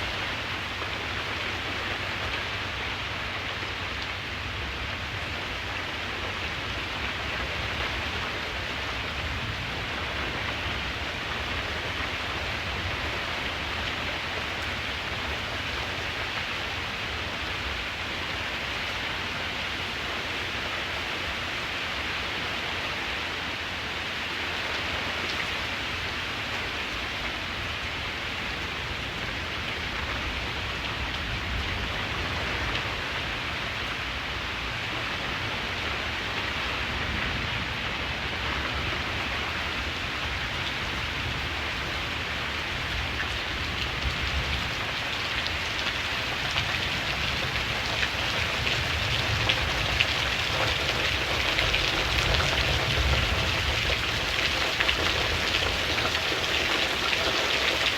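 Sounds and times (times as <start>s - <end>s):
louder raindrops: 0.0s - 57.9s
steady rain falling: 0.0s - 57.9s.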